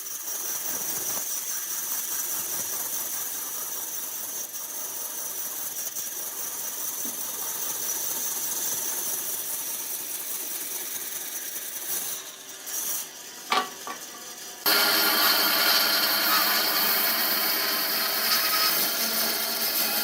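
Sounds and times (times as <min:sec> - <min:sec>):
workshop machine whirring: 0:00.0 - 0:20.0.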